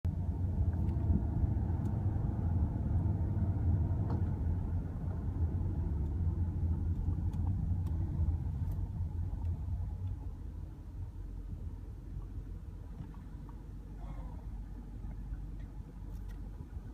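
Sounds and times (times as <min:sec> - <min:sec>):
car engine low rumble: 0:00.0 - 0:16.9.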